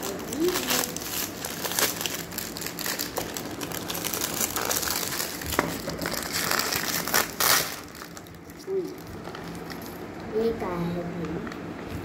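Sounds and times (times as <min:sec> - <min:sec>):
plastic packet crinkling: 0:00.0 - 0:10.2.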